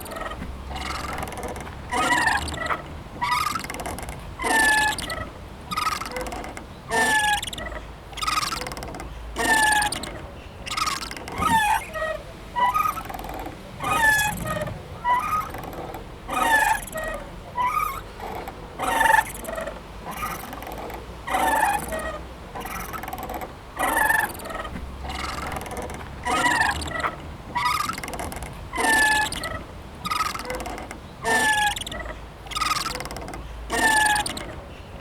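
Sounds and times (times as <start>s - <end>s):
swing squeaking: 0.0s - 35.0s.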